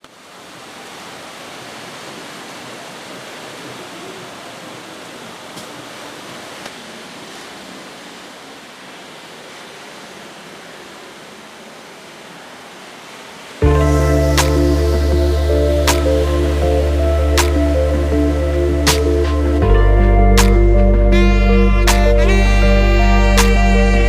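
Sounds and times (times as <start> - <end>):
sea surf rushing: 0.0 - 24.0.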